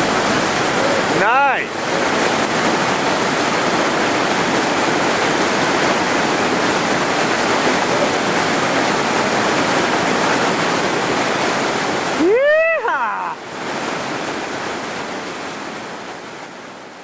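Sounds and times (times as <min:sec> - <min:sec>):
rapids rushing over boulders: 0:00.0 - 0:17.0.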